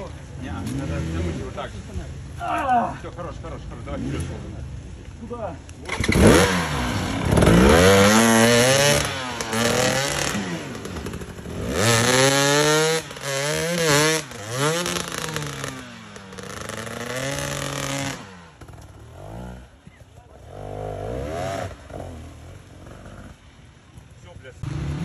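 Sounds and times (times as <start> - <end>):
motorcycle engine revving: 0.0 - 2.3, 3.5 - 5.0, 5.7 - 25.0.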